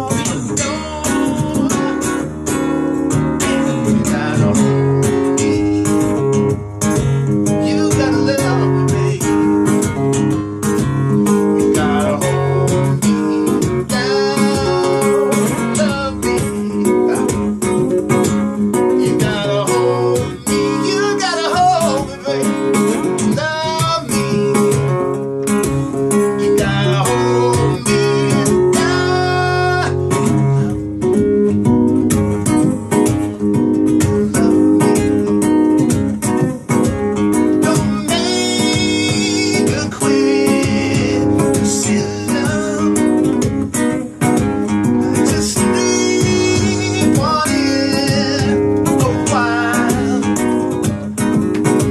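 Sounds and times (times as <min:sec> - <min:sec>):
man singing: 0:00.0 - 0:06.5, 0:07.3 - 0:10.3, 0:11.2 - 0:30.7, 0:34.0 - 0:35.9, 0:36.7 - 0:43.7, 0:44.8 - 0:51.2
strummed acoustic guitar: 0:00.0 - 0:51.9.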